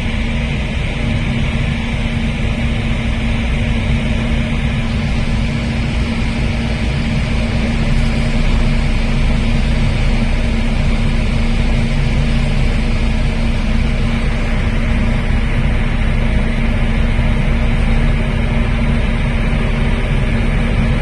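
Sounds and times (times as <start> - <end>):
boat engines droning: 0.0 - 21.0
rushing water noise: 0.0 - 21.0.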